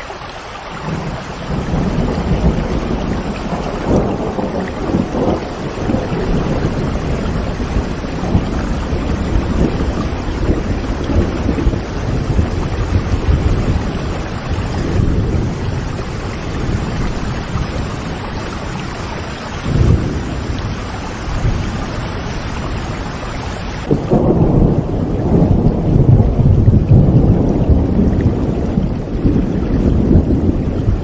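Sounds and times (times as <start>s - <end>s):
steady rain: 0.0s - 31.0s
rolling thunder: 0.7s - 31.0s.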